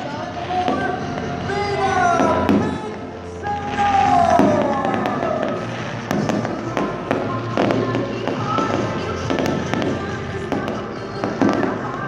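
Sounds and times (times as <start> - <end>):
fireworks crackles: 0.0 - 12.0
music: 0.0 - 12.0
fireworks bangs: 0.4 - 12.0.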